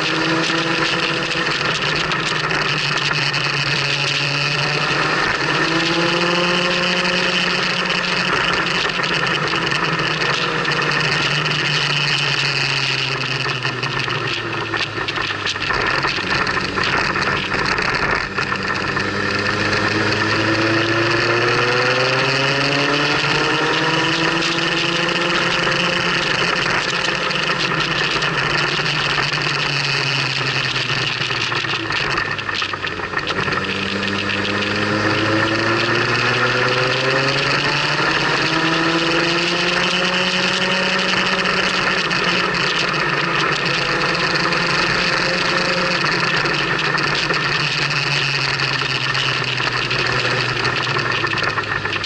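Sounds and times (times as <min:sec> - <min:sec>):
motorcycle engine: 0:00.0 - 0:52.0.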